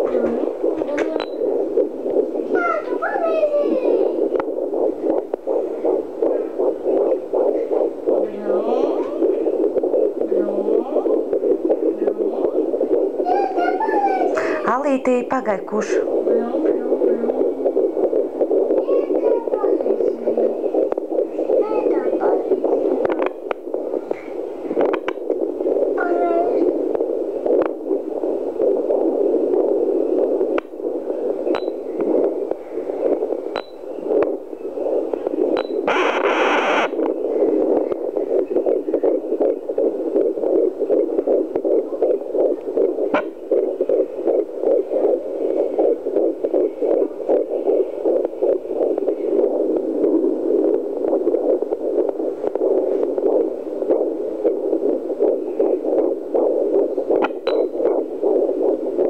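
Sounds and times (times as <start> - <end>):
harsh scratching burst: 0.0 - 59.0.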